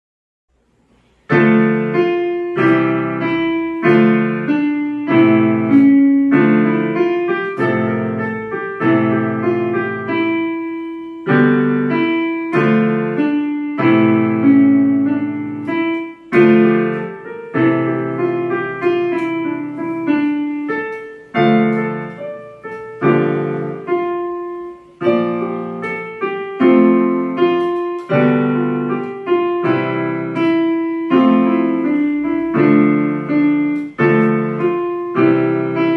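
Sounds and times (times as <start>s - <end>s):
slow piano music: 0.6s - 35.9s.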